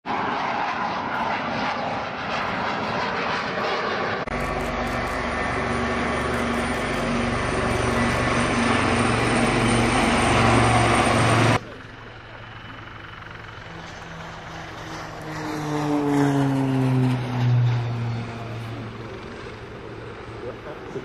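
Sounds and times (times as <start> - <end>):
jet fighter engine rushing: 0.0 - 11.6, 12.8 - 21.0
helicopters flying low: 0.0 - 21.0.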